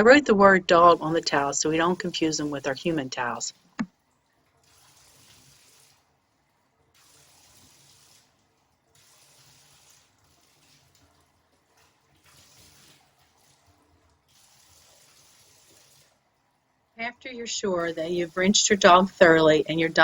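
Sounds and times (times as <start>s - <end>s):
faint running rinse water: 0.0s - 20.0s.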